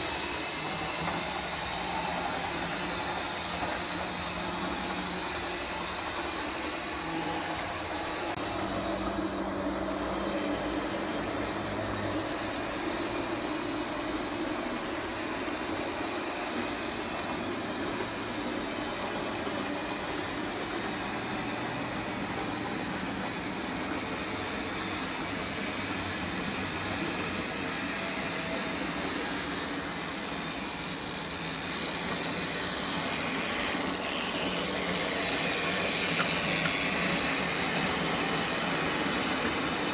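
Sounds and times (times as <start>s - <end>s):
small electric motors whirring: 0.0s - 39.9s
wheels rolling on rails: 0.0s - 39.9s.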